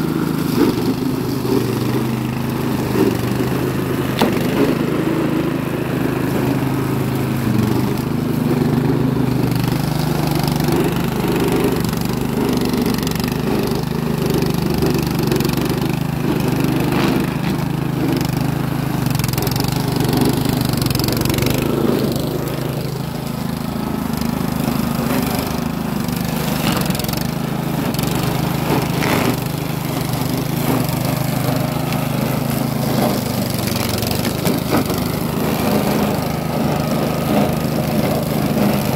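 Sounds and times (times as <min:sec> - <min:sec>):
flail mower engine running: 0:00.0 - 0:38.9.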